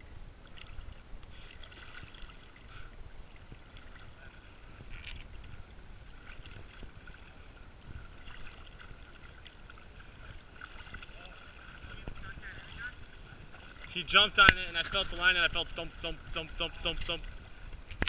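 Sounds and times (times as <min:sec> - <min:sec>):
wind rumble on microphone: 0:00.0 - 0:18.0
water sloshing around wading legs: 0:00.4 - 0:18.0.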